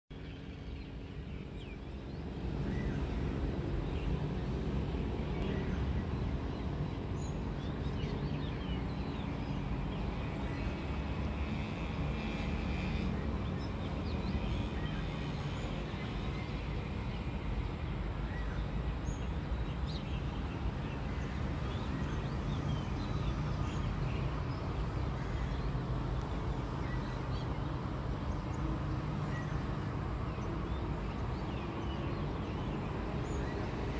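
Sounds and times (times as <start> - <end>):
distant city traffic rumble: 0.1 - 33.9.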